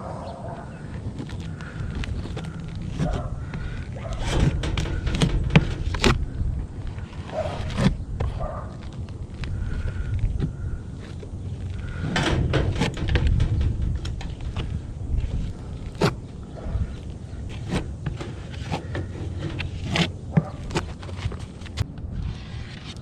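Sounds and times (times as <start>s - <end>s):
steady low rumble: 0.0s - 23.0s
roof tiles knocking and scraping: 0.8s - 22.0s.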